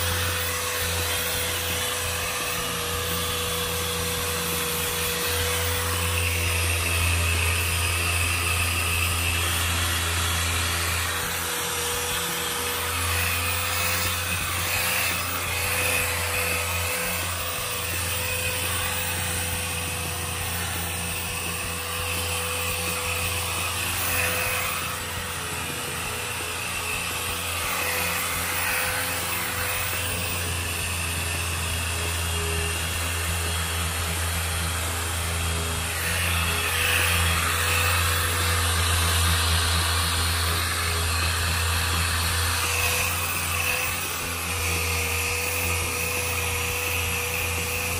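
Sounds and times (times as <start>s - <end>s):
electric motor humming and whining: 0.0s - 47.9s.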